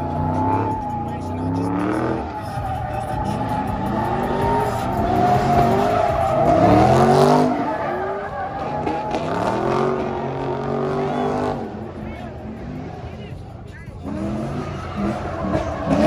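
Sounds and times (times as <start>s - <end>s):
car engines revving: 0.0s - 16.0s
tires squealing: 0.0s - 16.0s.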